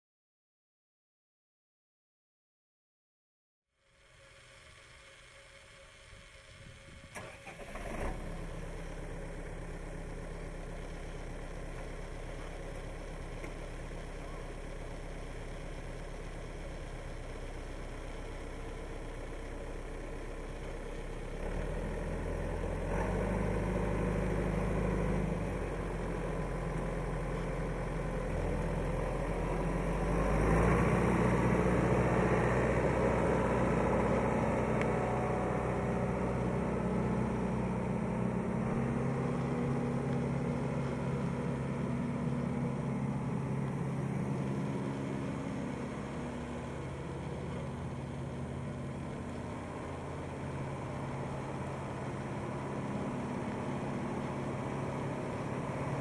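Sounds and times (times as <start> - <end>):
tractor diesel engine: 3.8 - 56.0.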